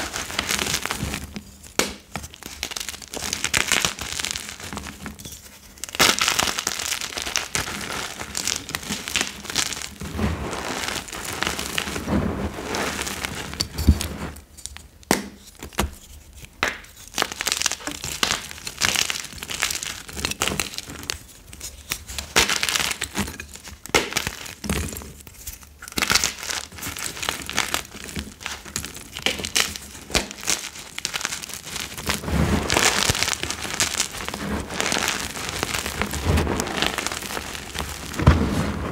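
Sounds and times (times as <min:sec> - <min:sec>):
chalk crunching and crumbling: 0:00.0 - 0:38.9.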